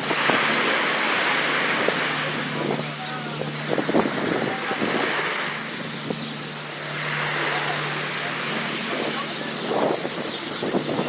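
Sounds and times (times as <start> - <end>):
sea waves breaking on sand: 0.0 - 10.9
wind buffeting microphone: 0.0 - 11.0.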